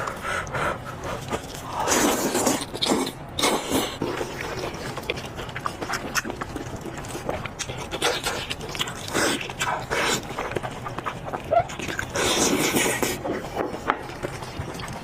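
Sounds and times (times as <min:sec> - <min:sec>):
person chewing and sucking: 0:00.0 - 0:15.0.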